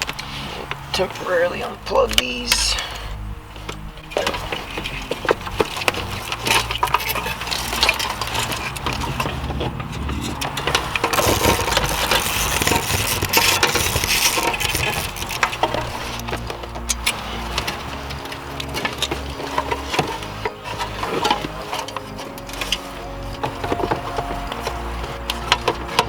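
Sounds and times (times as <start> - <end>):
plastic connectors clicking and rattling: 3.6 - 26.0.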